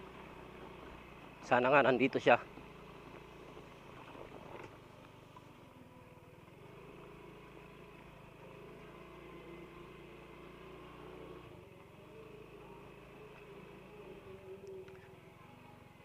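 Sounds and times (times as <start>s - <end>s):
motorcycle engine running faintly: 0.0s - 16.0s.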